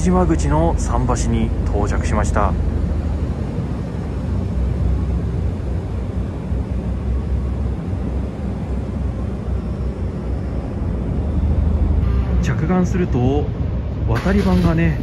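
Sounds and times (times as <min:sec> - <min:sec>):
ship engines rumbling: 0:00.0 - 0:15.0.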